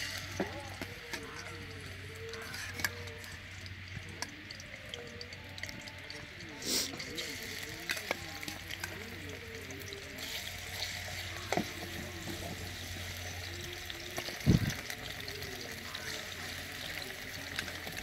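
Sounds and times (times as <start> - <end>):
prawns frying in oil: 0.0 - 18.0.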